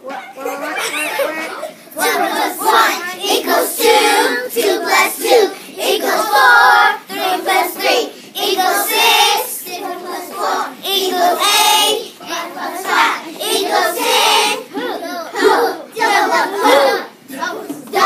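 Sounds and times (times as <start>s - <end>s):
young children singing: 0.0s - 18.0s.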